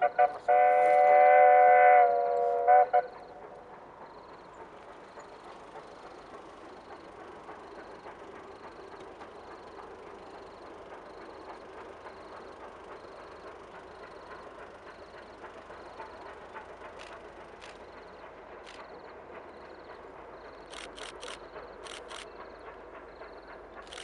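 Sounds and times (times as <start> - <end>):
steam locomotive rumble: 0.0 - 24.0.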